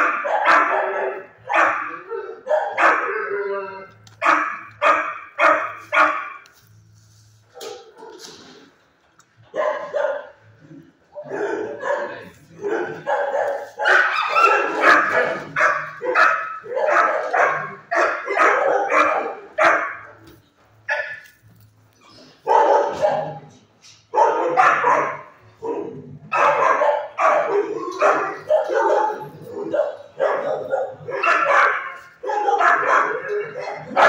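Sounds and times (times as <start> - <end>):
dogs barking: 0.0 - 6.6, 7.5 - 8.4, 9.4 - 34.0.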